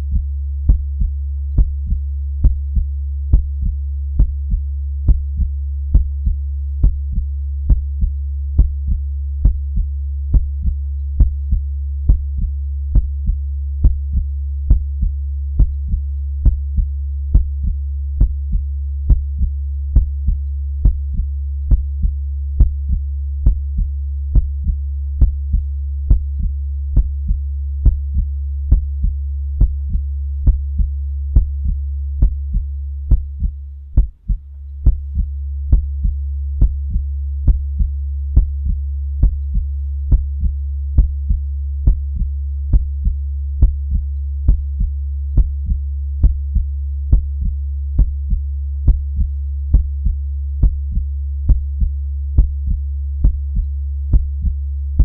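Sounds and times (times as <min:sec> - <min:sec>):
heartbeat double thump: 0:00.0 - 0:54.6
continuous low hum: 0:00.0 - 0:55.0.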